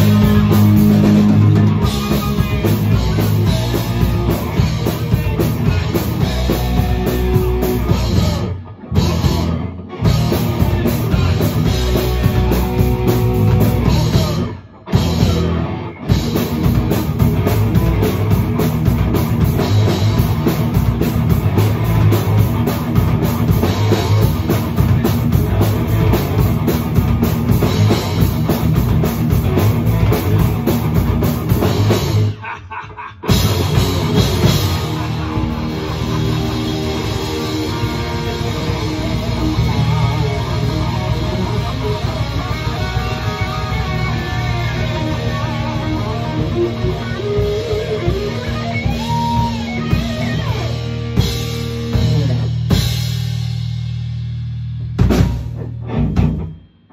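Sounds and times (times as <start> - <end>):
heavy rock music: 0.0 - 56.9.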